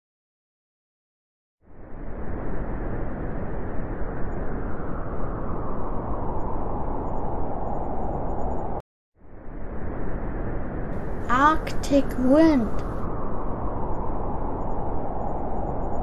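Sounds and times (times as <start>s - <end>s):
strong wind rushing: 1.7s - 16.0s.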